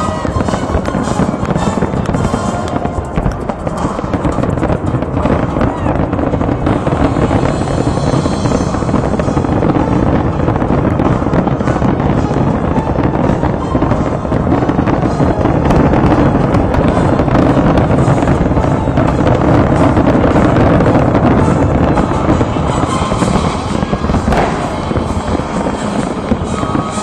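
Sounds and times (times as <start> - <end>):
fireworks bursts and crackling: 0.0 - 27.0.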